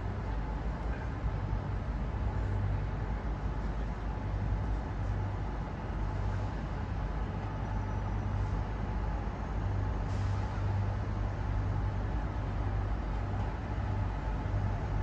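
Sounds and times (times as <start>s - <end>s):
low rumble of trains: 0.0s - 15.0s.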